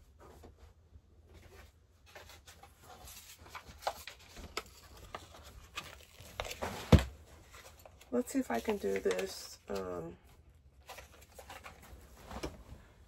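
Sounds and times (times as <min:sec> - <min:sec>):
household items rustling and clicking: 0:01.3 - 0:10.1, 0:10.8 - 0:12.8.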